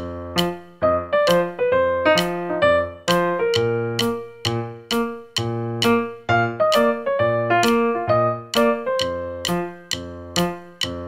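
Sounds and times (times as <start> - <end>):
piano-like keyboard music: 0.0 - 11.0.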